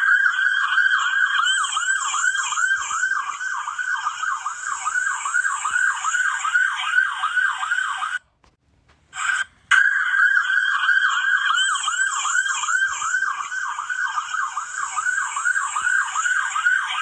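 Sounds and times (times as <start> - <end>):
police siren yelp: 0.0 - 8.3, 9.2 - 17.0.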